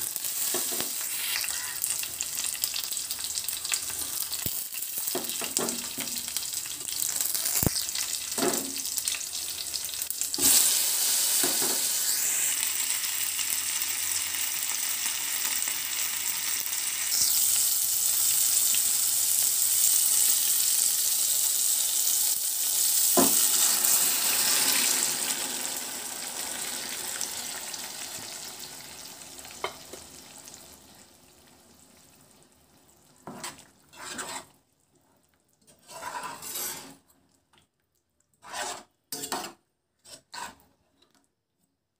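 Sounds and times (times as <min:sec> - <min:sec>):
hot oil sizzling in a pan: 0:00.0 - 0:34.6.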